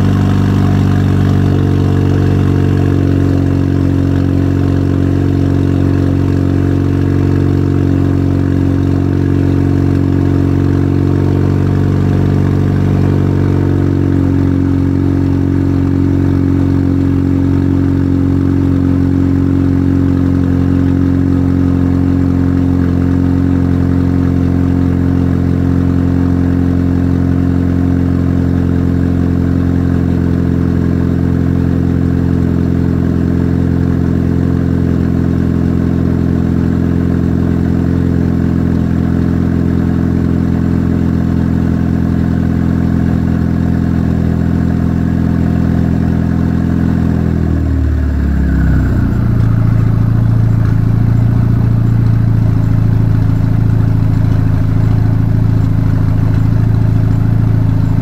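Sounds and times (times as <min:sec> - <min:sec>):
car engine idling loudly: 0:00.0 - 0:58.0.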